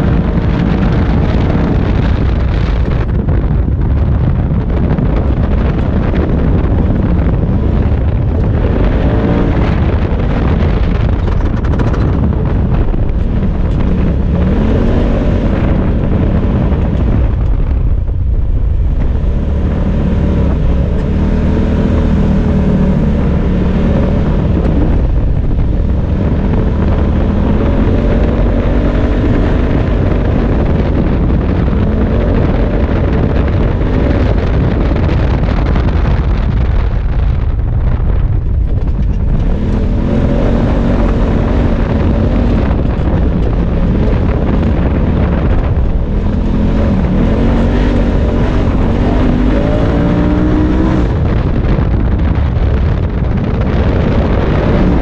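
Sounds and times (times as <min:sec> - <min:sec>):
utv engine accelerating: 0:00.0 - 0:55.0
wind buffeting microphone: 0:00.0 - 0:55.0.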